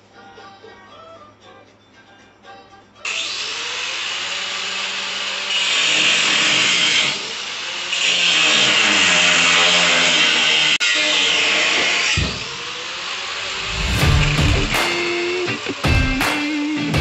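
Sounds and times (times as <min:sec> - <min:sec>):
angle grinder cutting steel: 0:03.1 - 0:16.8.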